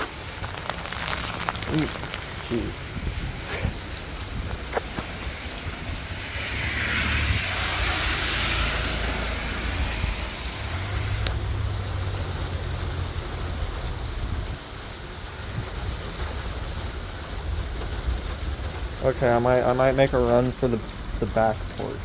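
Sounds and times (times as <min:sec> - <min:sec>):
heavy rain pouring and splashing: 0:00.0 - 0:22.0
wind buffeting microphone: 0:00.0 - 0:22.0.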